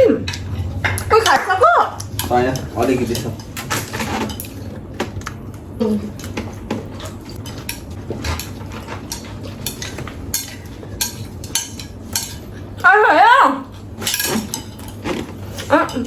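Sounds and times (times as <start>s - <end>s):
utensils clinking on plates: 0.1s - 12.9s, 13.6s - 16.0s.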